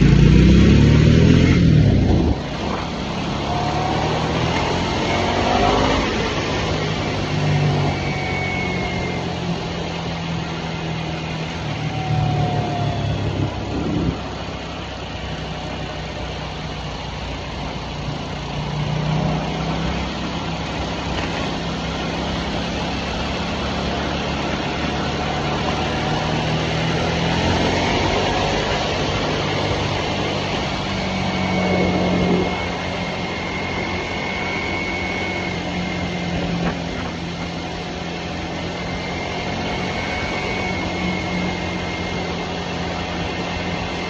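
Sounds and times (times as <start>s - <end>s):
motorcycle engine cruising: 0.0s - 44.0s
wind and road noise: 0.0s - 44.0s.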